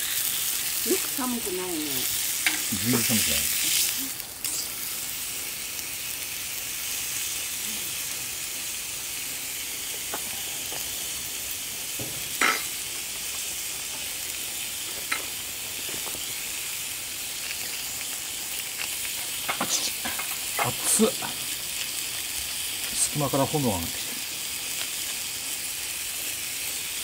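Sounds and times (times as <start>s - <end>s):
steaks sizzling on a griddle: 0.0s - 27.0s.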